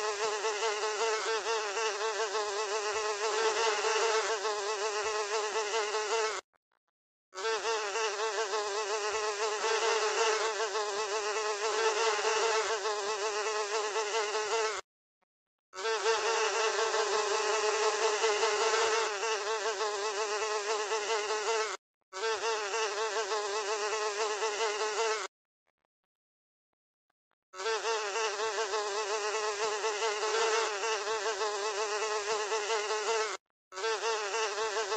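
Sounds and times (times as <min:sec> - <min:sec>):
housefly buzzing: 0:00.0 - 0:06.5, 0:07.4 - 0:14.9, 0:15.8 - 0:25.3, 0:27.6 - 0:34.9.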